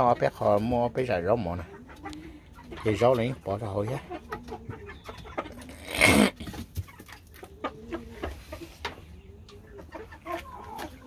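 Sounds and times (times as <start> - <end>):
rooster clucking: 1.4 - 11.0.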